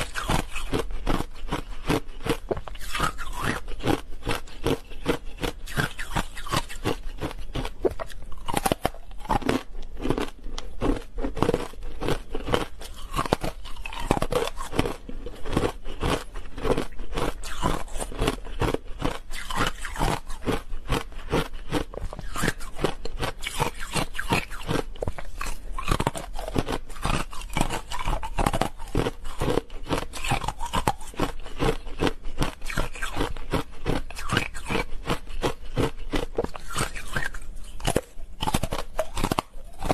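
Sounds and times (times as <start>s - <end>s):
ice bars crunching while chewed: 0.0s - 39.9s.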